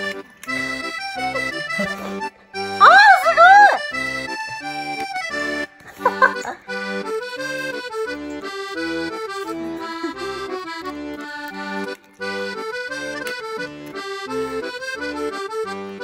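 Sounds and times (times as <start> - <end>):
lively melody over bass beat: 0.0 - 16.0.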